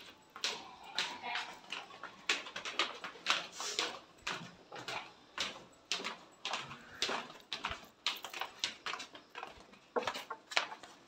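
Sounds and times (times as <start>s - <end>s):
footsteps on hard floor: 0.0s - 11.0s.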